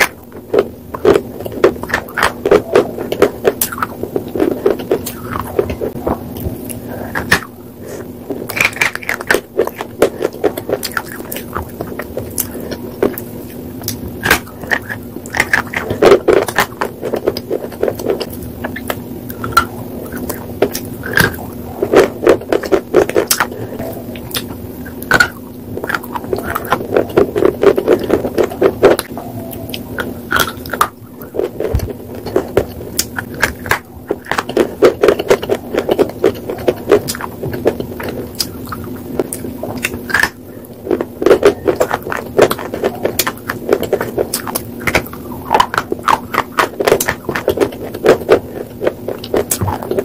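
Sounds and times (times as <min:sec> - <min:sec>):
crunchy chewing: 0:00.0 - 0:50.0
low steady hum: 0:00.0 - 0:50.0.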